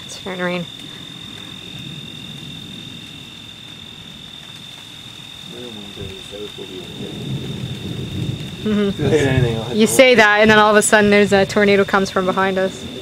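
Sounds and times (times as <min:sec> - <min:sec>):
crickets trilling: 0:00.0 - 0:13.0
thunder rumbling: 0:00.0 - 0:13.0.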